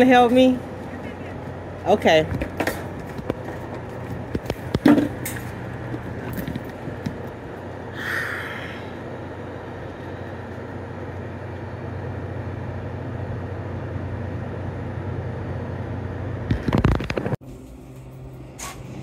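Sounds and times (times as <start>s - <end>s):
refrigerated coolers humming: 0.0s - 19.0s.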